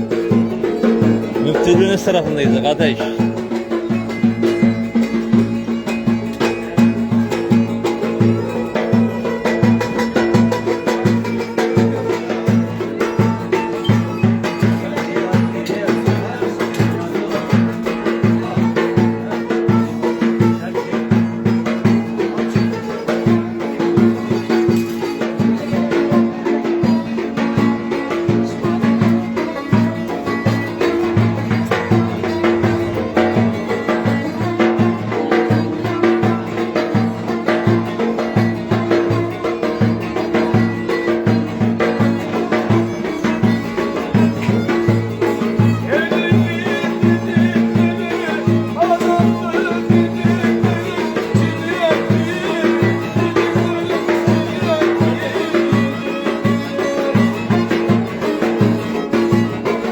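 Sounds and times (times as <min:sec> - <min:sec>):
steady drum beat: 0:00.0 - 0:59.9.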